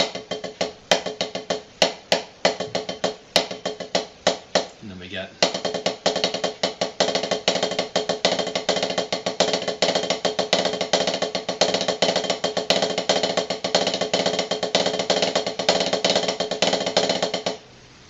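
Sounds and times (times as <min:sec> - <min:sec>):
snare drum rolls: 0:00.0 - 0:17.6.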